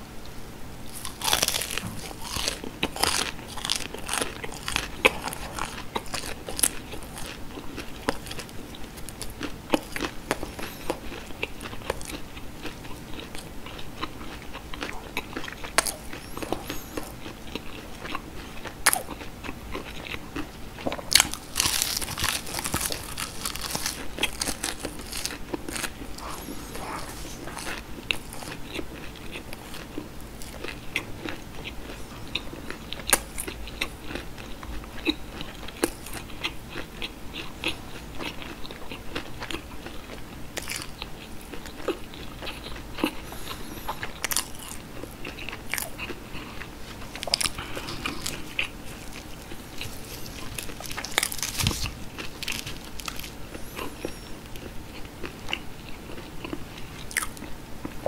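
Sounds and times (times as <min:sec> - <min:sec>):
chewing with wet mouth clicks: 0:00.2 - 0:58.0
crunching fried food: 0:00.8 - 0:58.0.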